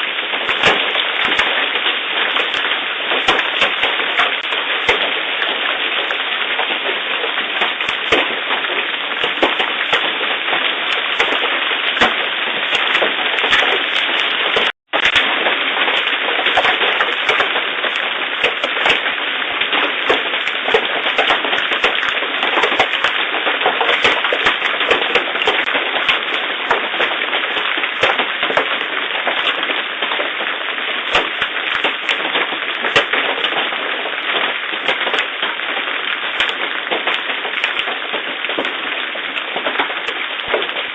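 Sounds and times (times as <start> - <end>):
hailstones cracking on impact: 0.0 - 40.9
hiss of rain and hail: 0.0 - 40.9.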